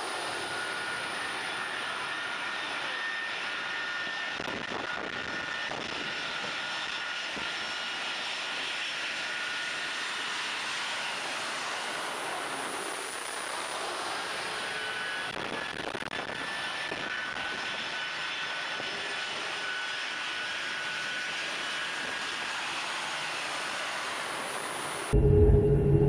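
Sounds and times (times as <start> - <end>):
jet engines rushing with turbine whine: 0.0 - 26.0.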